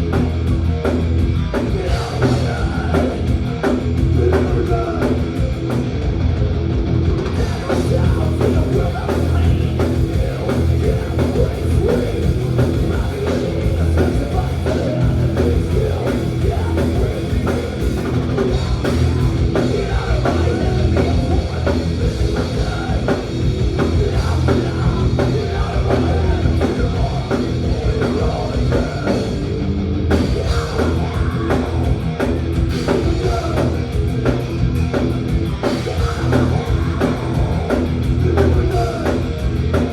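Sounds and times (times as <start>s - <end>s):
thrash metal band playing live: 0.0s - 39.9s.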